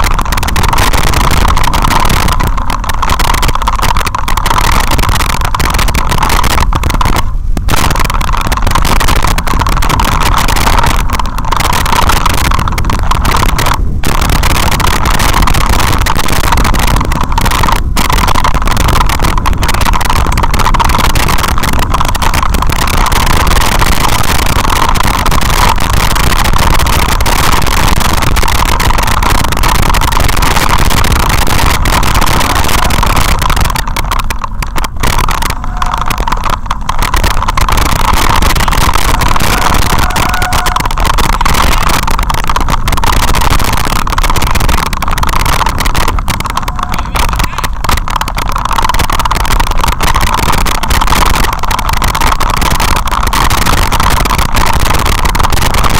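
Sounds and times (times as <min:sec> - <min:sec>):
bike rattling over stones: 0:00.0 - 0:55.9
wind buffeting microphone: 0:00.0 - 0:55.9.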